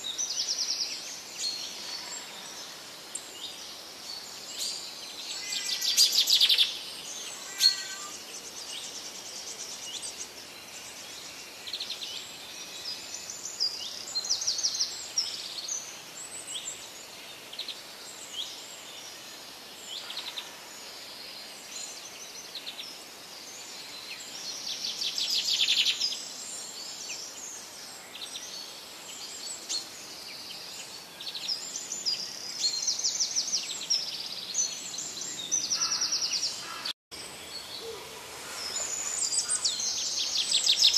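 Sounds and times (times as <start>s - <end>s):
small birds chirping and trilling: 0.0s - 40.9s
steady background hiss: 0.0s - 40.9s.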